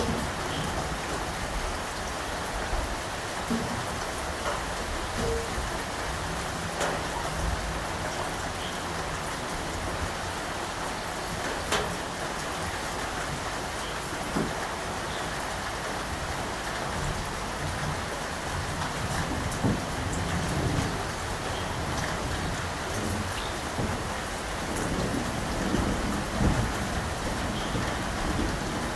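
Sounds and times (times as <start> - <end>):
rain pattering: 0.0 - 28.9.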